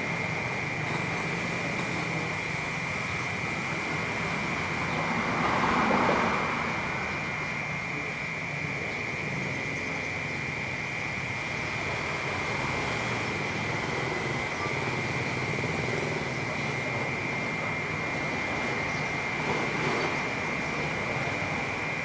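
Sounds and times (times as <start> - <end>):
cicadas droning: 0.0 - 22.0
city traffic rumble: 0.0 - 22.0.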